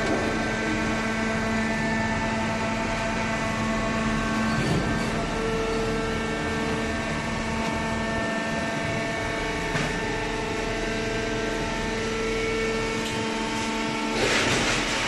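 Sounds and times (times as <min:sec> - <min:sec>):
hydraulic baler motor humming: 0:00.0 - 0:15.0.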